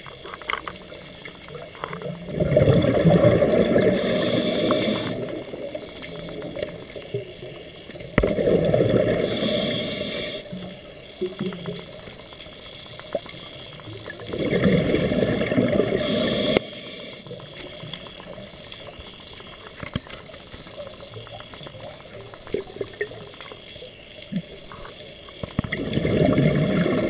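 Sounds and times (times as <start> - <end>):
exhaled bubbles underwater: 0.0 - 27.0
regulator crackle and hiss: 0.0 - 27.0.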